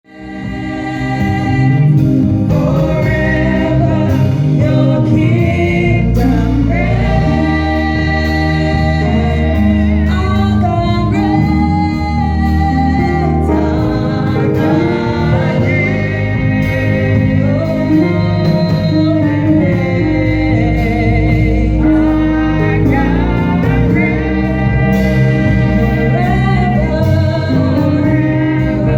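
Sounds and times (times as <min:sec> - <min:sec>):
gospel singing: 0:00.0 - 0:28.9
sustained keyboard and bass chords: 0:00.0 - 0:28.9.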